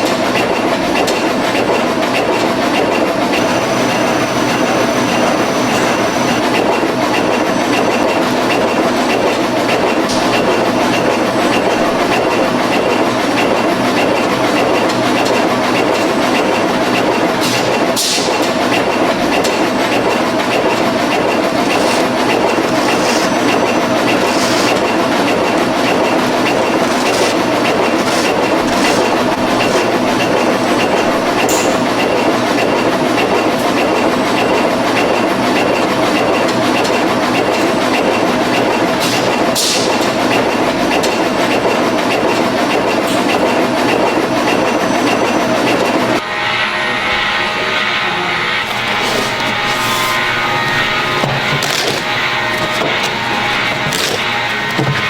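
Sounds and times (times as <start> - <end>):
factory machinery clattering: 0.0 - 55.0.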